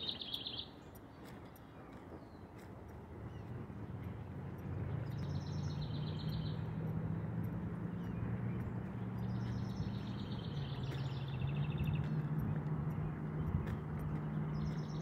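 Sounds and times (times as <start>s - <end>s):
songbird trilling: 0.0s - 15.0s
steady low hum: 0.0s - 15.0s.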